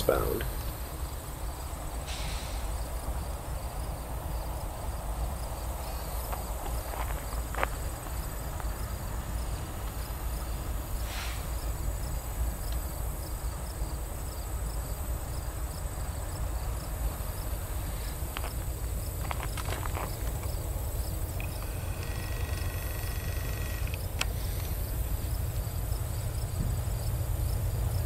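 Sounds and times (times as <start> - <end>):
insects chirping: 0.0 - 28.0.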